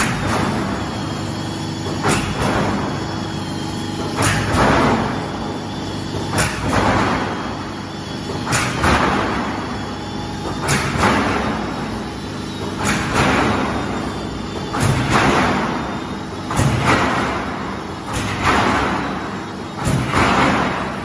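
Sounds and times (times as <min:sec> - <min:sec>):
machine clanking: 0:00.0 - 0:21.0
steady machine hum: 0:00.0 - 0:21.0.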